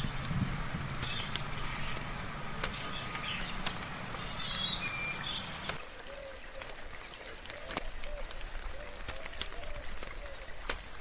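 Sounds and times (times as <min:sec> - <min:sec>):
birds chirping: 0:00.0 - 0:06.8, 0:07.5 - 0:11.0
rain pattering: 0:00.0 - 0:11.0
water drips: 0:00.0 - 0:11.0.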